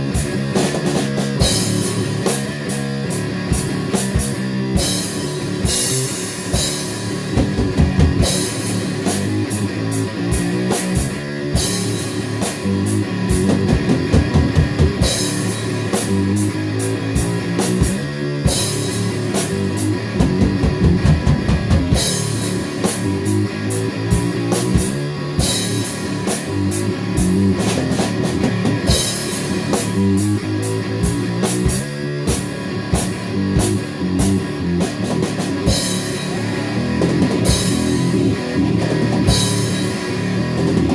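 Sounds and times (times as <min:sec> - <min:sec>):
distorted electric guitar: 0:00.0 - 0:40.9
rock music: 0:00.0 - 0:40.9.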